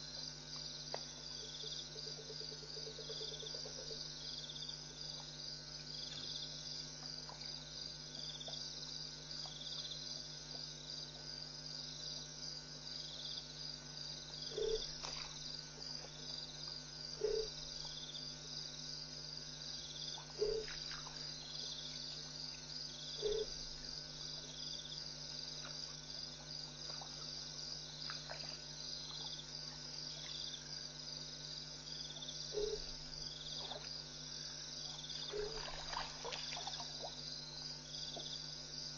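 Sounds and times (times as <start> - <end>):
faint low hum: 0.0 - 38.9
insects trilling: 0.0 - 38.9.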